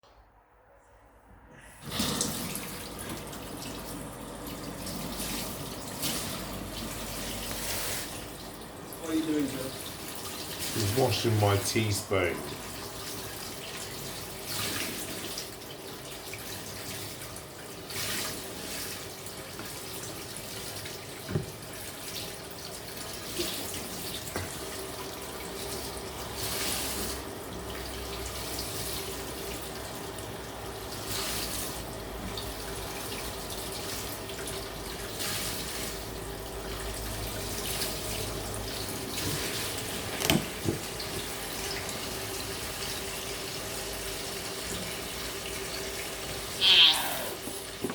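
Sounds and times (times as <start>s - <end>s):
tap water running into sink: 1.8s - 47.9s.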